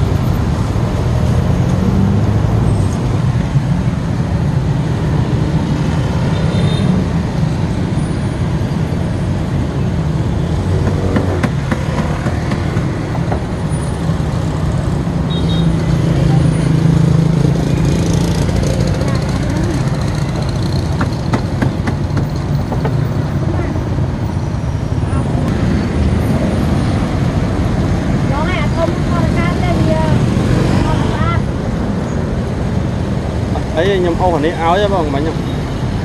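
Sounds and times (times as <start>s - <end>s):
roadside traffic engines: 0.0s - 36.0s.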